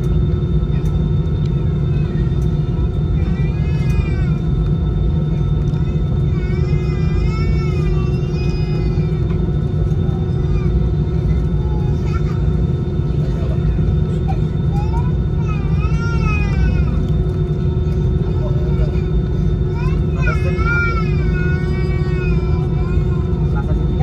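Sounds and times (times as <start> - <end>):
jet engines rumbling in cabin: 0.0 - 24.0
steady whine tones: 0.0 - 24.0.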